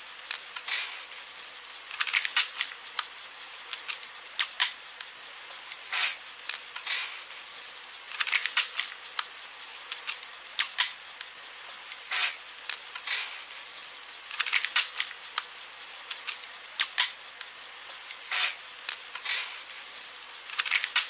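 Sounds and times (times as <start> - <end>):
tape hiss: 0.0 - 21.0.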